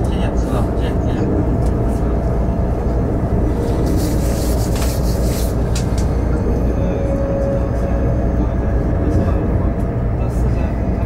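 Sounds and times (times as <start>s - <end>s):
train running noise inside carriage: 0.0s - 11.0s.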